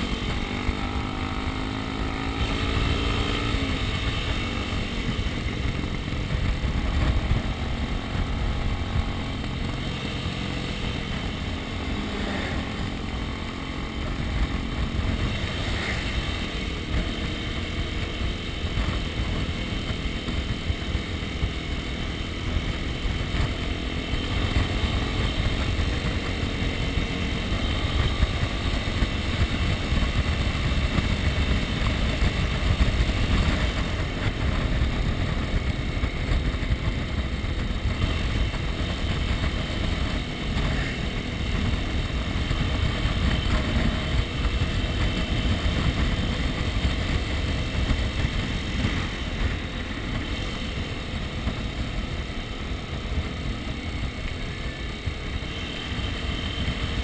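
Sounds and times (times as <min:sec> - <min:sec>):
dirt bike engine cruising: 0:00.0 - 0:57.0.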